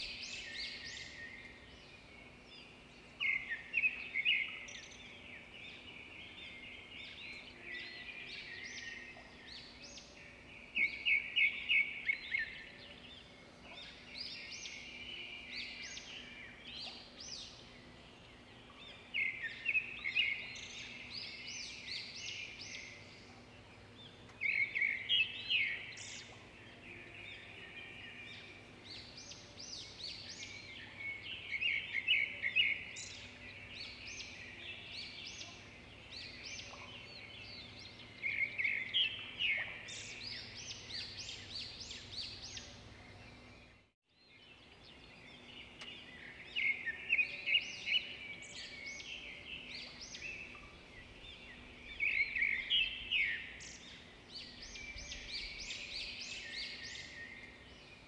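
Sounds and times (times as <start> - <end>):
small birds chirping and twittering: 0.0 - 58.0.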